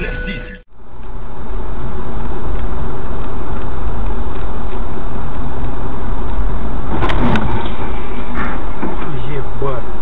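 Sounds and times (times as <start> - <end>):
car road and engine noise: 0.0 - 10.0
tyres on snowy road: 0.0 - 10.0.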